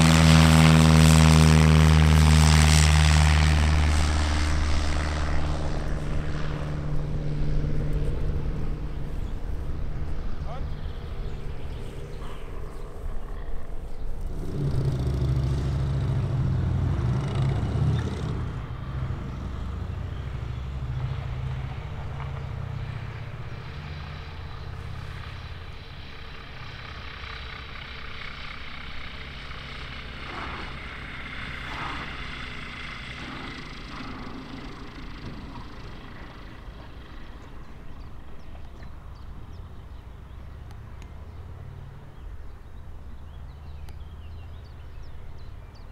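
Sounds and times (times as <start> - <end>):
propeller aircraft engine drone: 0.0 - 45.9
steady engine with high whine: 0.0 - 45.9.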